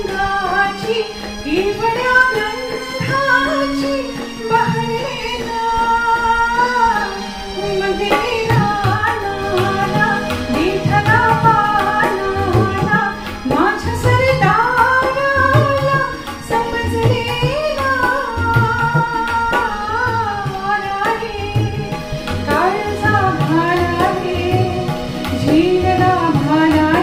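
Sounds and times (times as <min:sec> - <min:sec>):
instrumental accompaniment: 0:00.0 - 0:27.0
tabla: 0:00.0 - 0:27.0
woman singing: 0:00.0 - 0:27.0.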